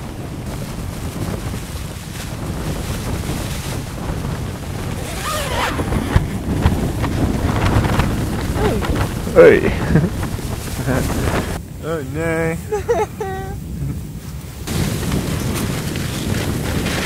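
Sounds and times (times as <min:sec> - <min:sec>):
tent fabric flapping: 0:00.0 - 0:11.6, 0:12.2 - 0:17.0
blizzard wind rumbling: 0:00.0 - 0:17.0.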